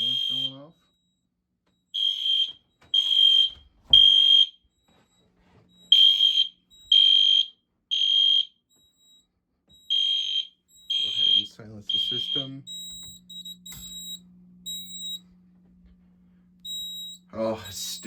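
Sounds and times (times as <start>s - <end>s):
fire alarm beeping: 0.0s - 15.3s, 15.9s - 18.0s.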